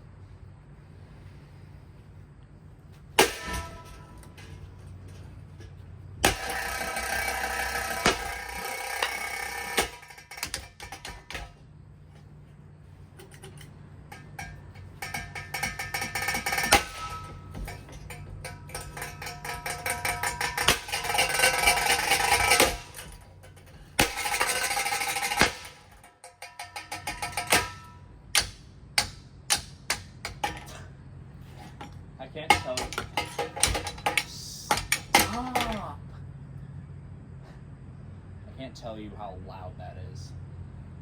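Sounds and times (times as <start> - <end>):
ceiling fan rattling: 1.8 - 36.0
fan motor humming: 2.3 - 36.2.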